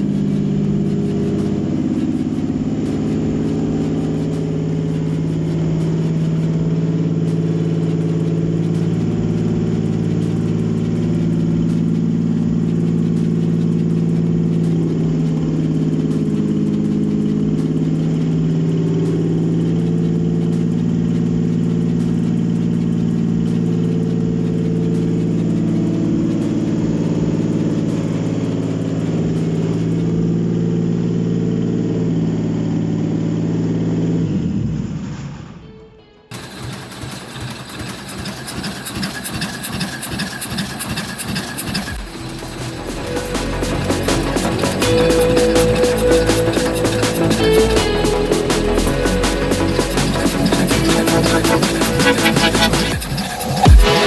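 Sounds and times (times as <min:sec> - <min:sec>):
engine idling: 0:00.0 - 0:33.9, 0:36.3 - 0:54.0.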